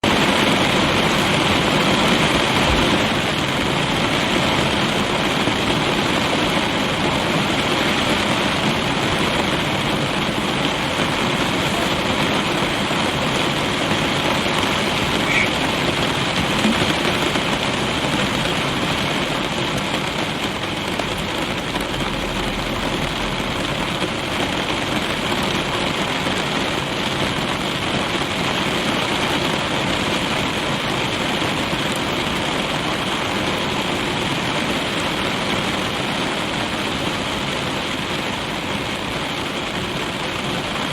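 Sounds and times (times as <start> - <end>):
rain on car roof: 0.0 - 40.9.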